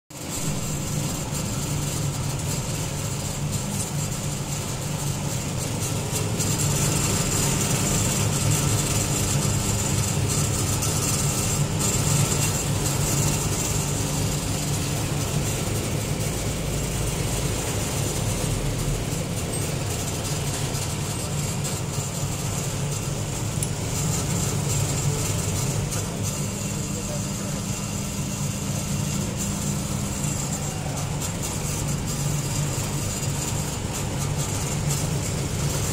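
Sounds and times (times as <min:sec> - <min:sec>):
low mechanical hum: 0:00.1 - 0:35.9.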